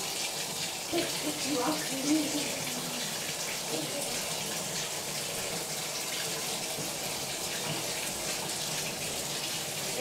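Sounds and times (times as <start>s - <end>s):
water running into a bathtub: 0.0s - 10.0s.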